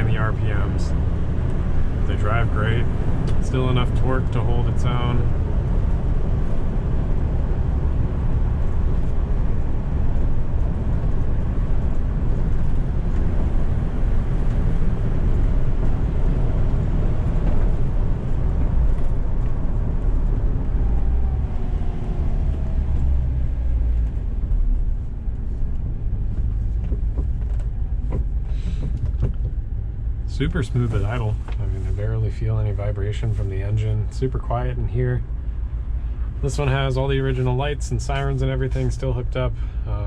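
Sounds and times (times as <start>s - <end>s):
road rumble: 0.0s - 40.0s.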